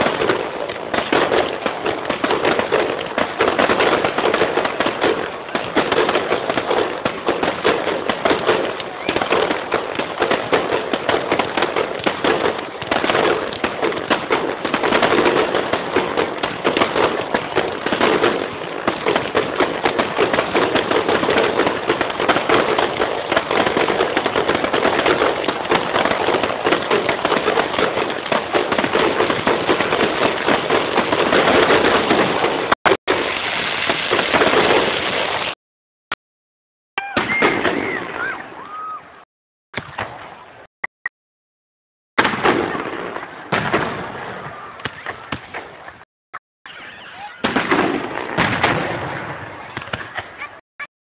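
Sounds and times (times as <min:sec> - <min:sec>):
fireworks bangs and crackles: 0:00.0 - 0:35.6, 0:37.0 - 0:40.7, 0:42.2 - 0:46.1, 0:46.7 - 0:50.6.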